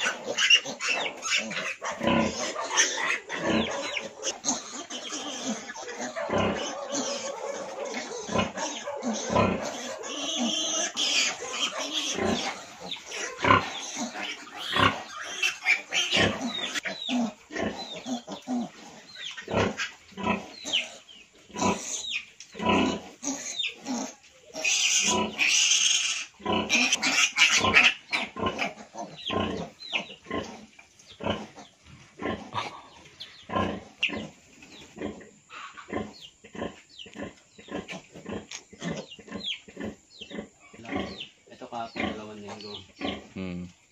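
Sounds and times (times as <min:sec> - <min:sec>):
piglets squealing: 0:00.0 - 0:34.3, 0:35.0 - 0:43.4
pigs grunting: 0:00.0 - 0:43.9.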